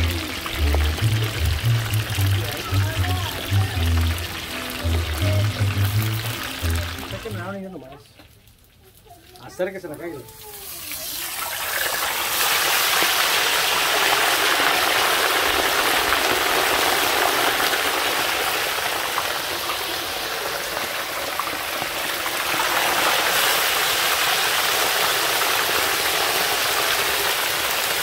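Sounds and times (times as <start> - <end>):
fish deep-frying in oil: 0.0 - 28.0.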